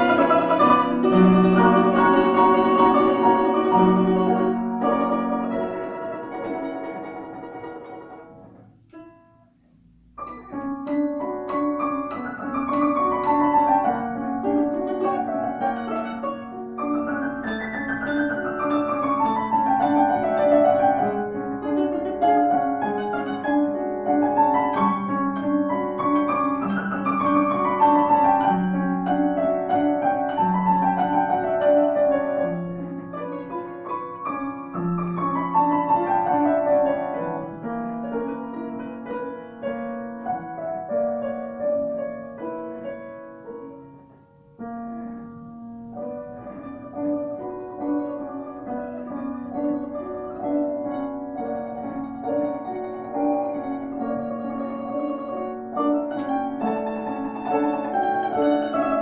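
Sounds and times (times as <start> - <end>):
piano arpeggios: 0.0 - 59.0.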